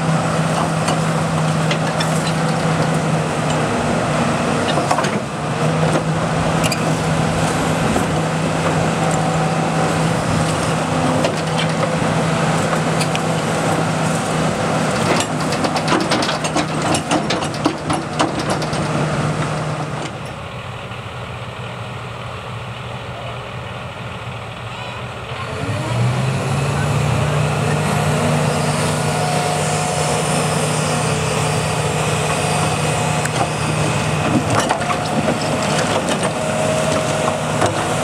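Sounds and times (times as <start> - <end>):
excavator diesel engine working: 0.0 - 38.0.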